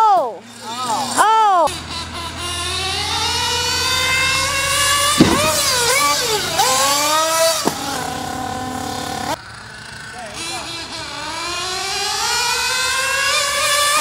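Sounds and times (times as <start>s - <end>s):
small two-stroke engine revving: 0.4s - 14.0s.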